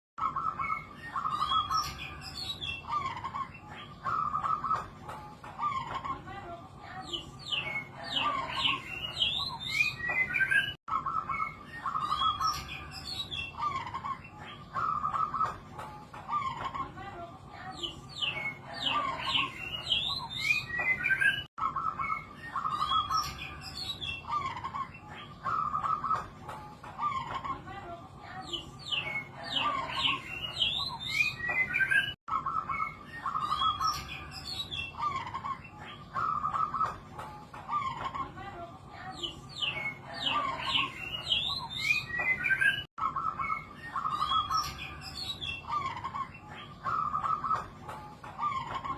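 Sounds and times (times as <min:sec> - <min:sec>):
small birds chirping: 0:00.2 - 0:48.9.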